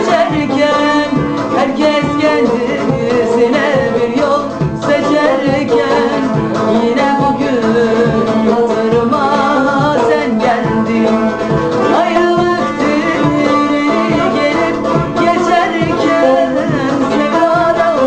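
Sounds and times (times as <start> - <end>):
strummed string instrument: 0.0 - 18.0
woman singing folk song: 0.0 - 18.0.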